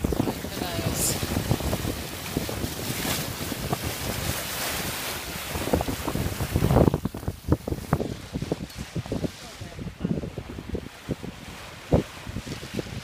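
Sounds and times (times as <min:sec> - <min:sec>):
boat bow wave splashing: 0:00.0 - 0:13.0
wind buffeting microphone: 0:00.0 - 0:13.0.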